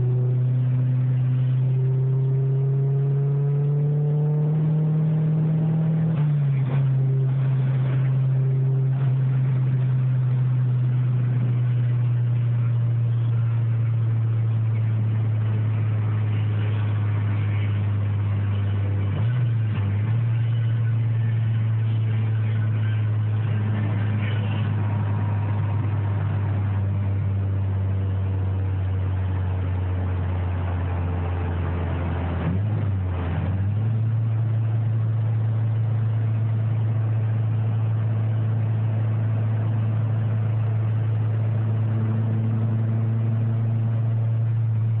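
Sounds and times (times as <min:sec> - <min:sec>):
car engine from inside cabin: 0:00.0 - 0:45.0.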